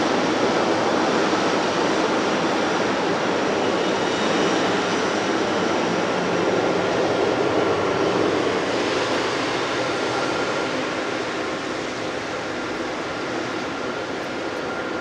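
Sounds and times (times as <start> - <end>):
jet engines running: 0.0 - 15.0
faint high engine whine: 2.8 - 15.0.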